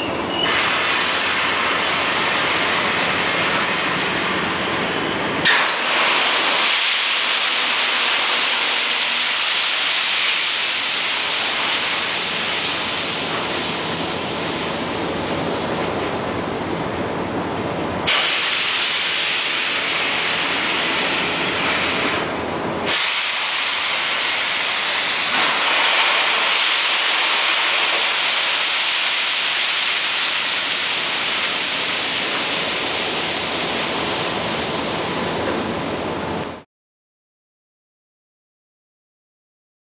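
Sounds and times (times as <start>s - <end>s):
ore pouring rushing hiss: 0.4s - 15.6s, 18.1s - 36.2s.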